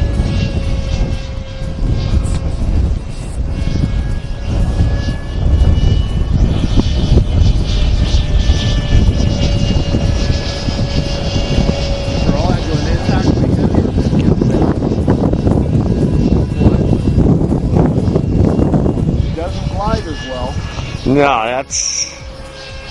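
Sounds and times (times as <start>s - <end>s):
model airplane motor droning: 0.0s - 22.9s
wind buffeting microphone: 0.0s - 22.9s.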